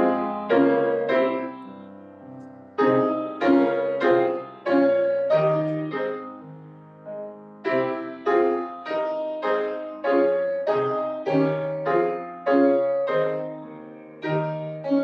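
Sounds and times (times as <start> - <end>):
solo piano playing slow chords: 0.0 - 15.0.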